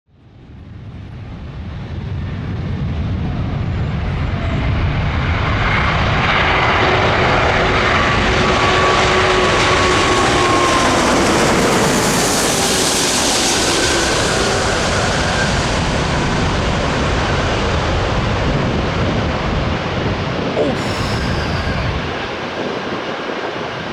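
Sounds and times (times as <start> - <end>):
jet airliner passing close: 0.6 - 23.9.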